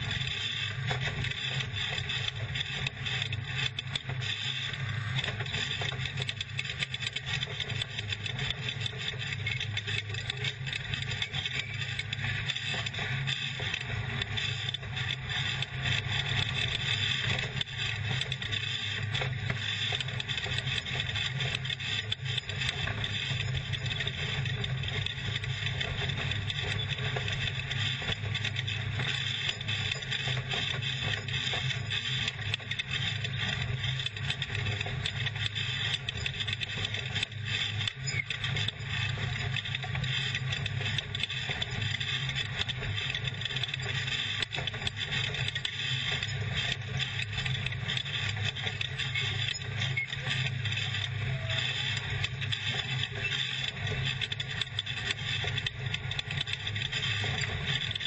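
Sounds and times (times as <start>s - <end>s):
chassis rattling and scraping: 0.0s - 58.0s.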